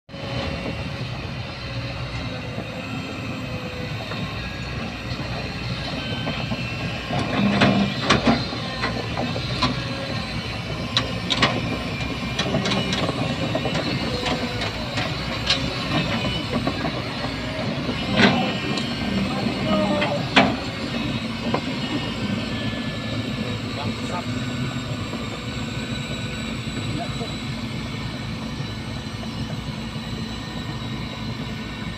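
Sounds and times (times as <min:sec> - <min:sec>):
excavator engine running: 0:00.1 - 0:31.9
crawler tracks clanking and squeaking: 0:00.2 - 0:31.9.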